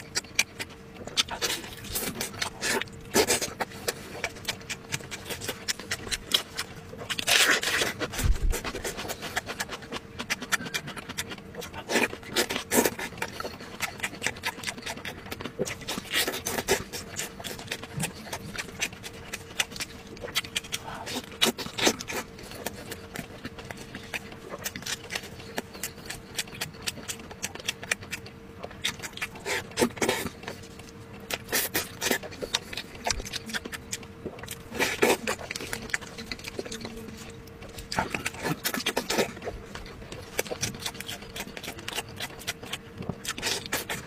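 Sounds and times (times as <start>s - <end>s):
wet chewing: 0.0s - 44.0s.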